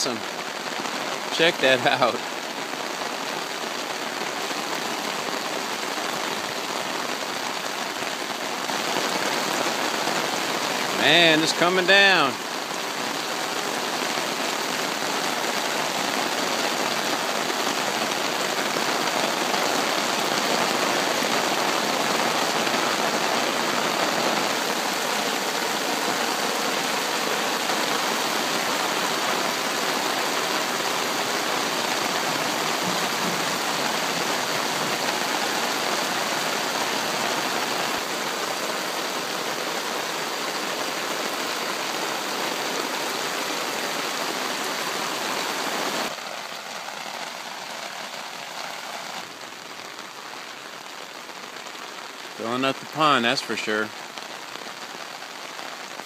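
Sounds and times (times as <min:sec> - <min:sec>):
heavy rain on pond: 0:00.0 - 0:56.0.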